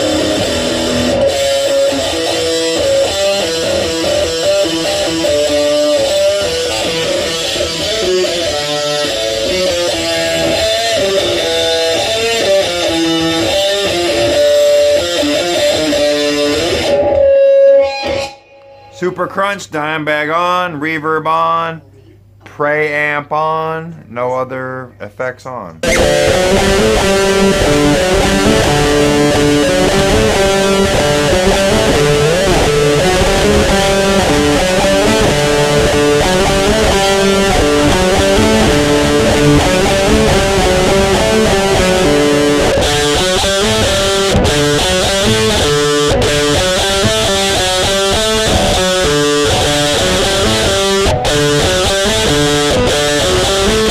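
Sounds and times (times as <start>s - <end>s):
distorted electric guitar lead: 0.0s - 19.2s, 25.8s - 53.9s.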